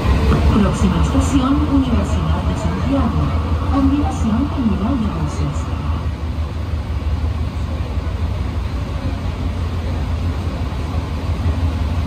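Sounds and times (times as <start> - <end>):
metro train cabin rumble: 0.0 - 12.0.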